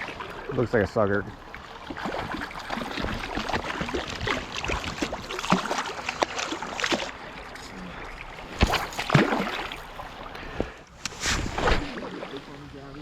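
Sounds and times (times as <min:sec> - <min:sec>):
splashing in shallow water: 0:00.0 - 0:13.0.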